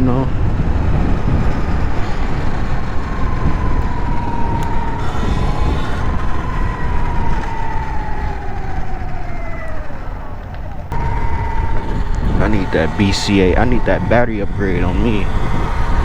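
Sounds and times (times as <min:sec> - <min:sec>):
electric motor whine: 0:00.0 - 0:16.0
wind buffeting microphone: 0:00.0 - 0:16.0.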